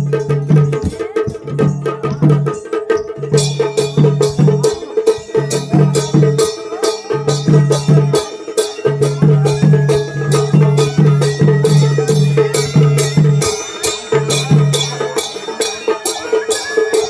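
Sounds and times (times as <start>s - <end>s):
drums and cymbals beat: 0.0s - 17.0s.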